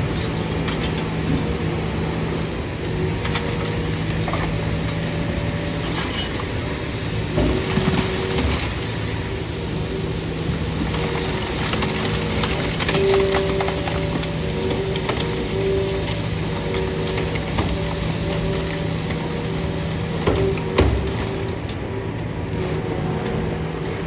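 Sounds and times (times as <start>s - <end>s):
metallic clanks and crunching: 0.0s - 9.5s, 10.2s - 24.0s
hydraulic hum: 0.0s - 24.0s.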